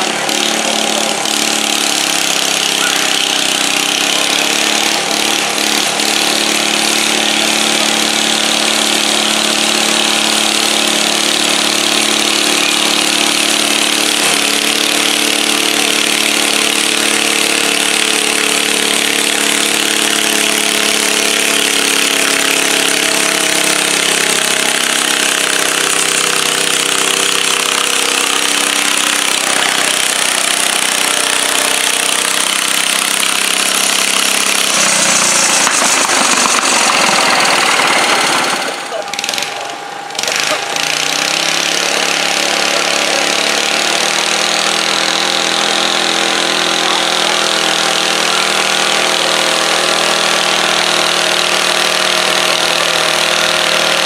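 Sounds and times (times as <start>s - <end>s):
garden tractor engine revving: 0.0s - 54.0s.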